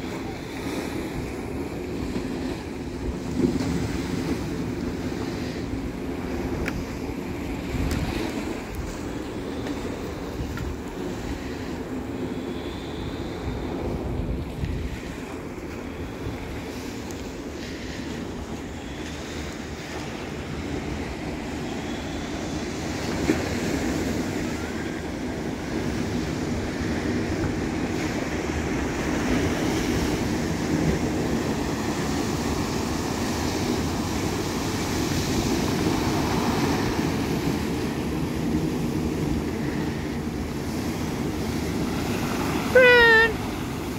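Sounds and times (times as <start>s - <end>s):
surf breaking on rocky shore: 0.0s - 43.9s.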